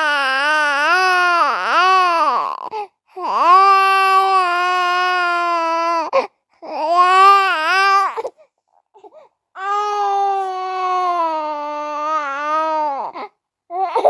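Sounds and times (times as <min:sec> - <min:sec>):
baby crying: 0:00.0 - 0:08.4, 0:09.0 - 0:14.0.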